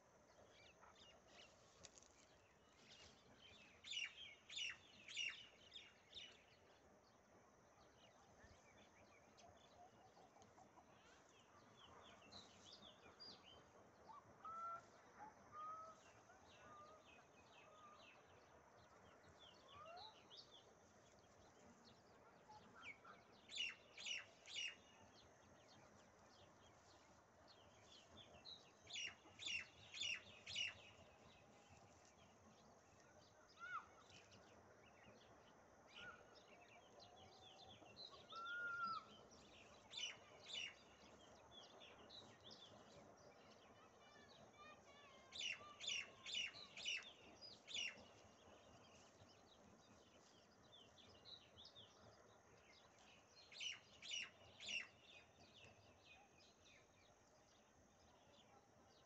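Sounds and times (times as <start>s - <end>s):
small birds chirping: 0.0s - 6.8s, 7.8s - 59.0s.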